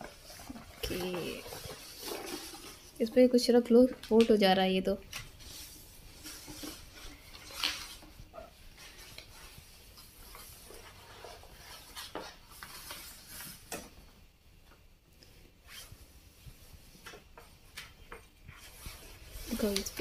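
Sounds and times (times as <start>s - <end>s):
paper sheet rustling: 0.0s - 13.9s, 15.8s - 20.0s.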